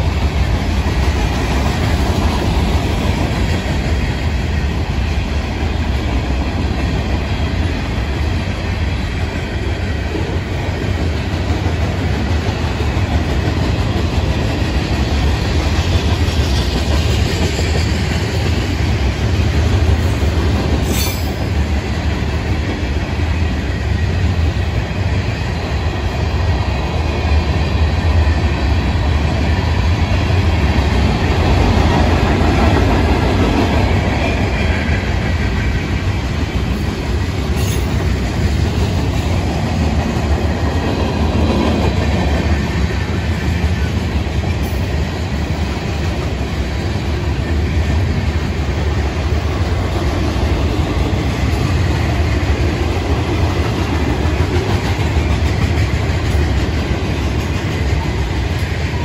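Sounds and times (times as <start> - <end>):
freight cars rolling on rails: 0.0 - 59.0.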